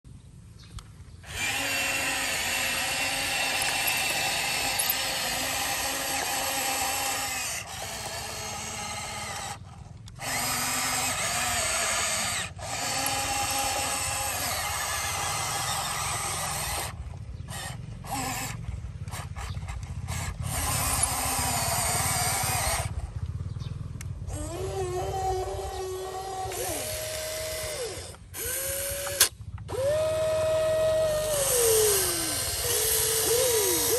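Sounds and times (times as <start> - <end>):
electric motors whining: 1.2 - 33.9.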